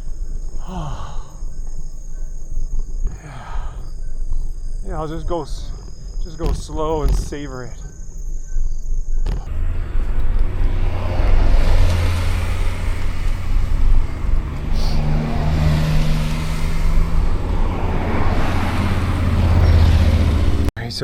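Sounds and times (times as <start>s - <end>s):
wind buffeting microphone: 0.0s - 20.7s.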